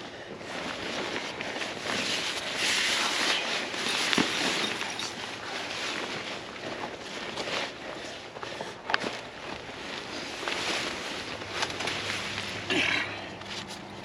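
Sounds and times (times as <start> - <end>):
fabric crackling and rustling: 0.0 - 14.0.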